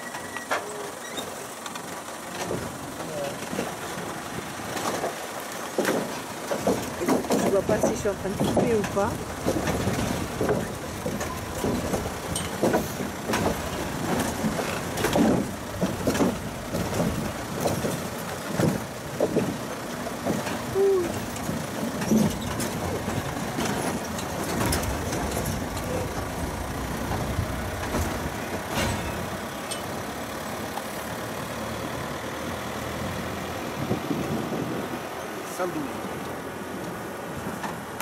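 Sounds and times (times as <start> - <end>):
wheels knocking over bridge: 0.0 - 31.5
vehicle body rattling: 0.0 - 35.9
vehicle engine running: 0.0 - 38.0.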